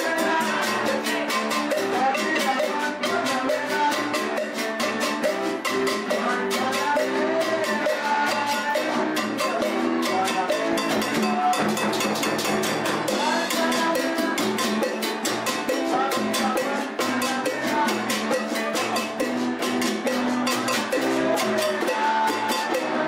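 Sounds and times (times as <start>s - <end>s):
congas and timbales: 0.0s - 23.0s.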